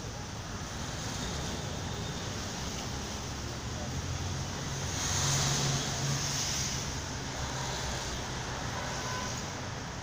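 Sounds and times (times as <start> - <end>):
vehicles driving past: 0.0 - 10.0.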